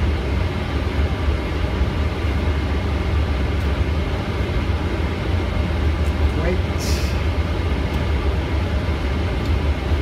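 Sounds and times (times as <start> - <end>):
airplane cabin rumble: 0.0 - 10.0
faint steady whine: 0.0 - 10.0.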